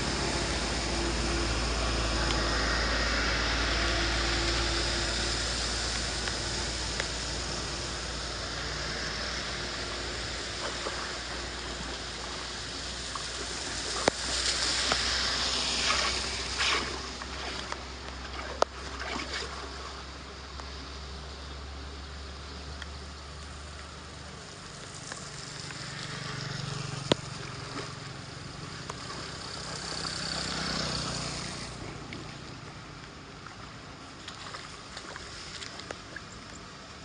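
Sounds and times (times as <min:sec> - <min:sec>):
water rushing and splashing: 0:00.0 - 0:37.0.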